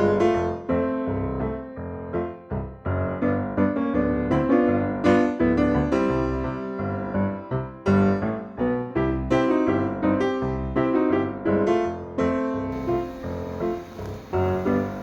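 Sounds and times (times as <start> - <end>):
piano playing light melody: 0.0 - 15.0.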